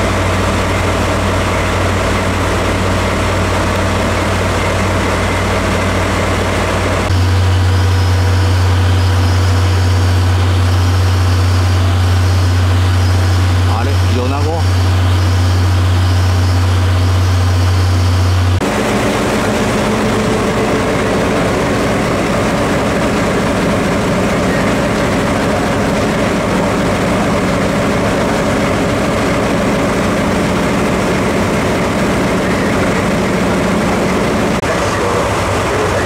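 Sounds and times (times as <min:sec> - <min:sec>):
diesel locomotive engine idling: 0:00.0 - 0:36.0.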